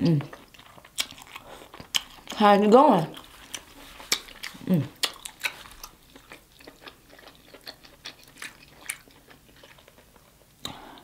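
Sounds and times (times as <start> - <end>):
wet chewing with mouth smacks: 0.2 - 11.0.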